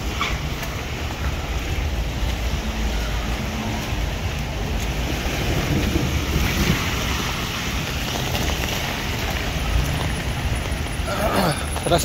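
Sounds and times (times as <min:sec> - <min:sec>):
wind rumbling on microphone: 0:00.0 - 0:11.1
steady rain: 0:00.0 - 0:12.0
car tyres hissing on wet road: 0:01.0 - 0:12.0.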